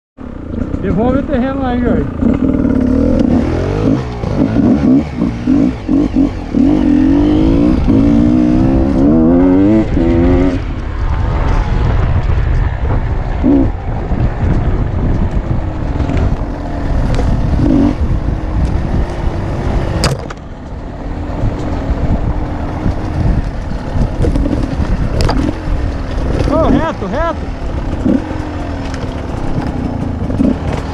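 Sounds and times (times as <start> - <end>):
driving noise rumble: 0.2 - 30.9
vehicle engine revving: 0.2 - 30.9.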